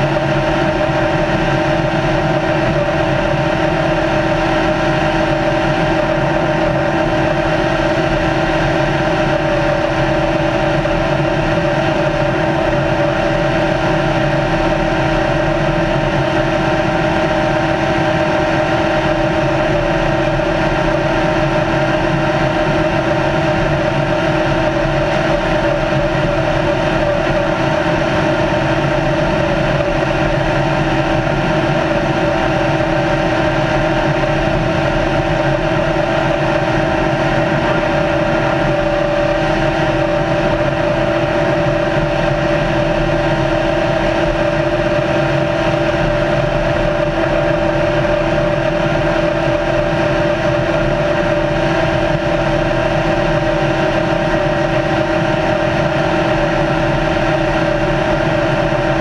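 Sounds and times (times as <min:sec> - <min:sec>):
race car engine droning: 0:00.0 - 0:59.0
road and wind noise: 0:00.0 - 0:59.0.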